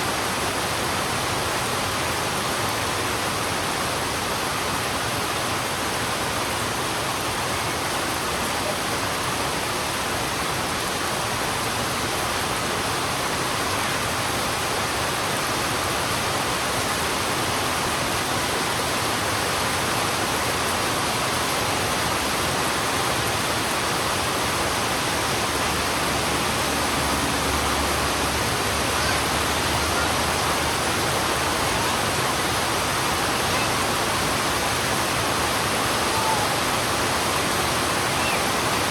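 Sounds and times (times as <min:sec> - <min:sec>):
heavy rain on road: 0:00.0 - 0:38.9.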